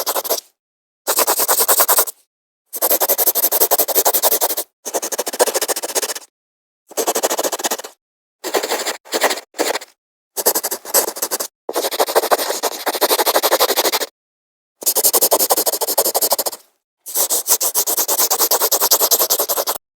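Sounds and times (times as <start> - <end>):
pen scribbling on paper: 0.0 - 0.4, 1.1 - 2.1, 2.7 - 6.3, 6.9 - 14.1, 14.8 - 19.8.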